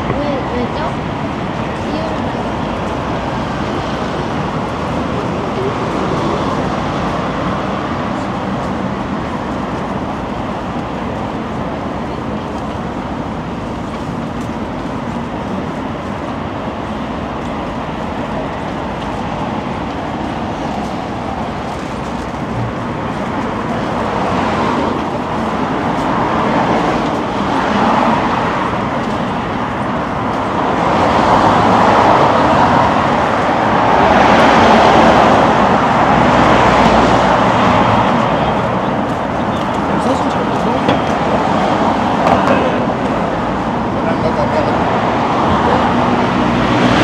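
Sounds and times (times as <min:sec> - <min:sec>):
car road noise: 0:00.0 - 0:47.0.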